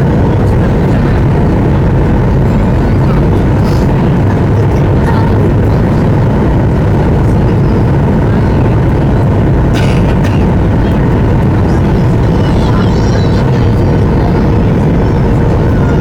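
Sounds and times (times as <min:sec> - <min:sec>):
low engine rumble: 0:00.0 - 0:16.0
rushing air: 0:00.0 - 0:16.0.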